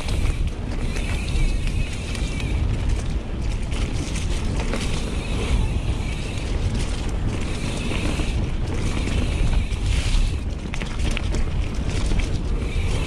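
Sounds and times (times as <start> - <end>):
bike frame rattle: 0.0 - 13.0
bike tyres rolling on dirt trail: 0.0 - 13.0
wind rumble on microphone: 0.0 - 13.0.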